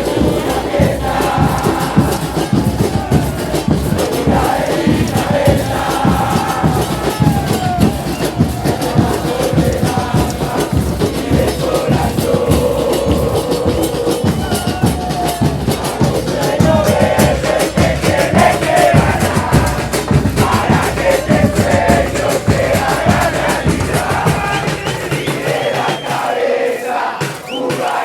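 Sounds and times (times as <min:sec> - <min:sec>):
crowd singing a chant: 0:00.0 - 0:28.0
pounding drum beats: 0:00.0 - 0:28.0.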